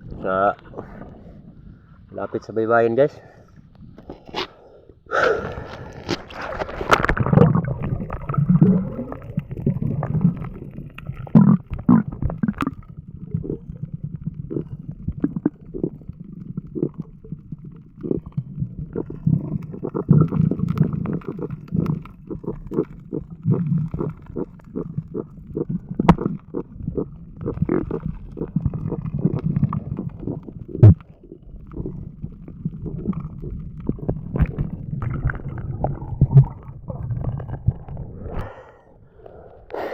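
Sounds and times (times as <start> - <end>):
muffled underwater gurgling: 5.5 - 38.8.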